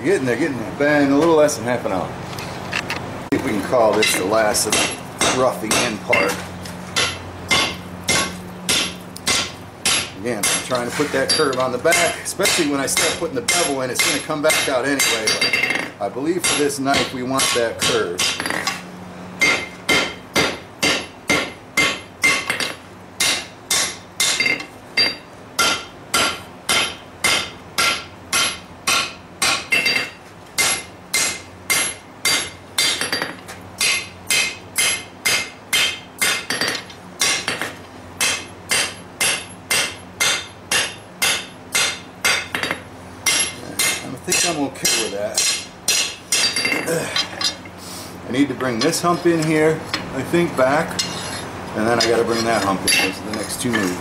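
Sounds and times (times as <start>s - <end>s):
hammer striking blade on anvil: 4.0s - 6.4s, 7.0s - 18.8s, 19.4s - 47.6s, 52.0s - 53.9s.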